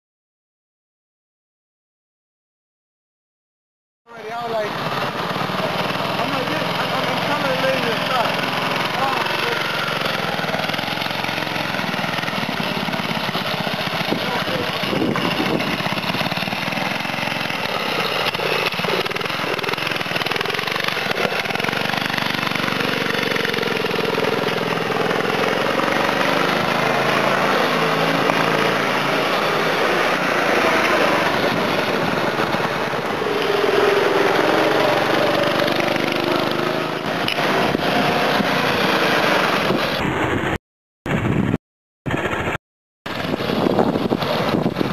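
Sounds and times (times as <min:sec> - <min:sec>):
go-kart engine running: 0:04.1 - 0:40.6, 0:42.1 - 0:44.9.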